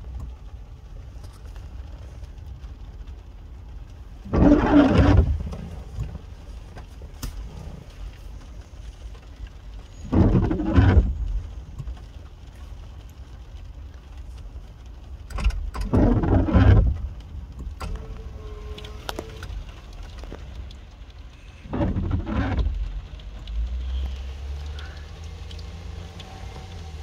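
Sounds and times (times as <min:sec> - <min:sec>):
low engine rumble: 0:00.0 - 0:27.0
steady rain: 0:00.0 - 0:27.0
windscreen wipers sweeping: 0:00.0 - 0:27.0.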